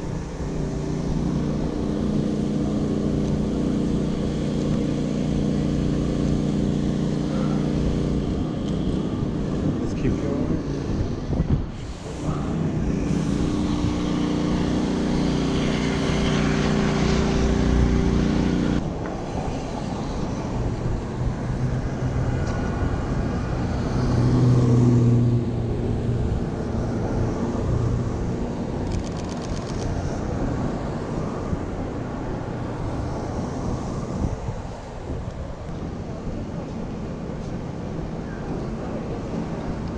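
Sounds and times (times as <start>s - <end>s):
vehicle engines running: 0.0s - 19.0s, 19.6s - 34.3s
steady engine hum: 0.0s - 39.9s.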